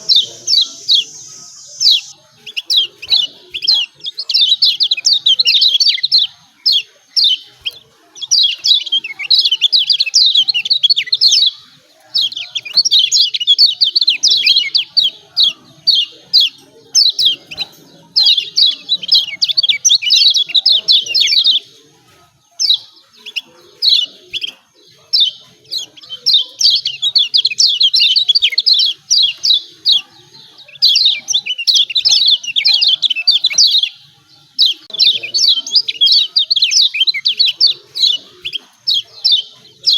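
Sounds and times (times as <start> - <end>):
white-eye bird chattering chirps: 0.0 - 39.9.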